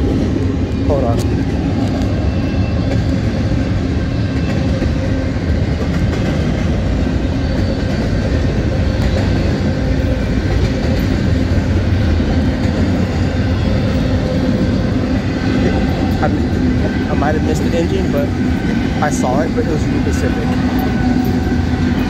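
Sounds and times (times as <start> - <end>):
freight train rumbling on rails: 0.0 - 22.0.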